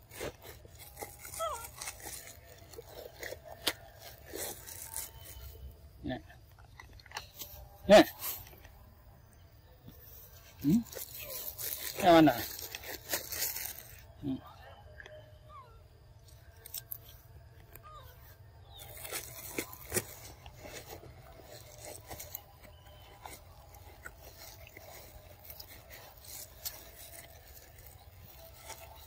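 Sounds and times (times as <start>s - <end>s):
monkeys chewing fruit: 0.0s - 9.0s, 10.0s - 15.4s, 16.2s - 29.0s.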